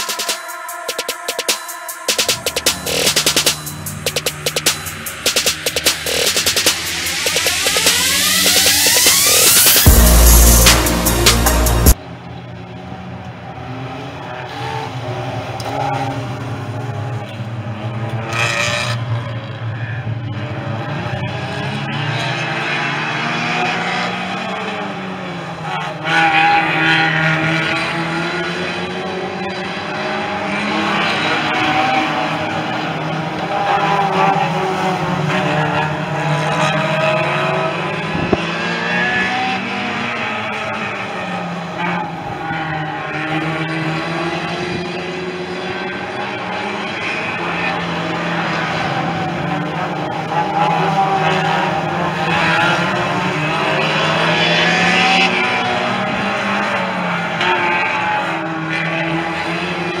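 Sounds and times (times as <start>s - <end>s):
race car engines revving: 2.3s - 60.0s.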